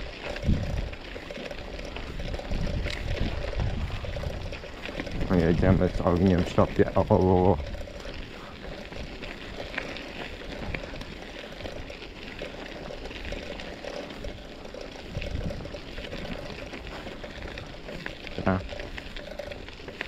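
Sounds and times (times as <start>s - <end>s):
bicycle tyres on rough trail: 0.0s - 20.0s.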